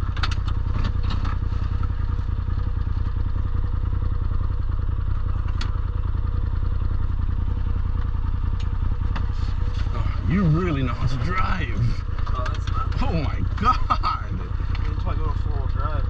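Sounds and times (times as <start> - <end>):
vehicle engine rumbling: 0.0 - 16.0
vehicle rattles: 0.0 - 16.0.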